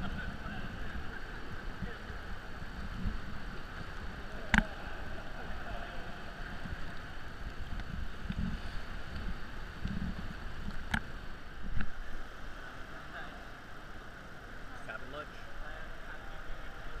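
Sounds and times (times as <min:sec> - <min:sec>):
paddle splashes: 0:00.0 - 0:14.4
water lapping: 0:00.0 - 0:17.0.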